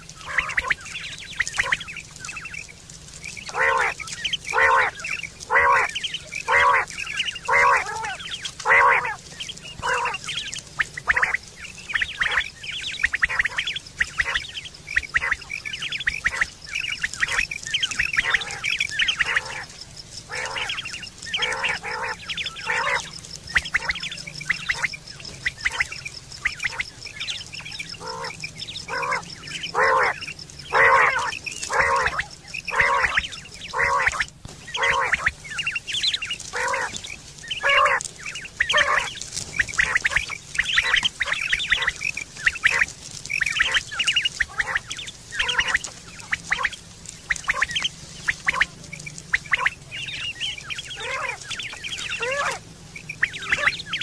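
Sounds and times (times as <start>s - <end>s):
quail calling: 0.0s - 54.0s.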